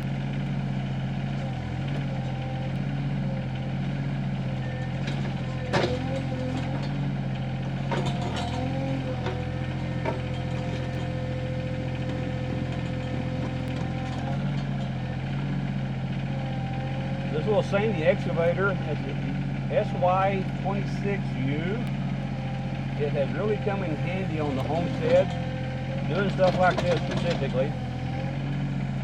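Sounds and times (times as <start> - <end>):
mini excavator engine whining: 0.0 - 29.0.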